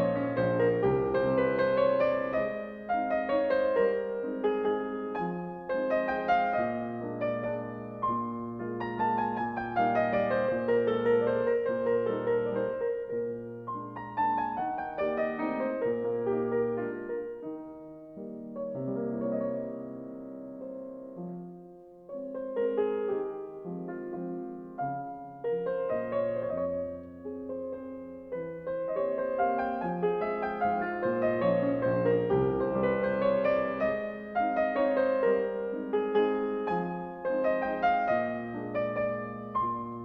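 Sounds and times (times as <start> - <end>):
slow piano music: 0.0 - 40.0.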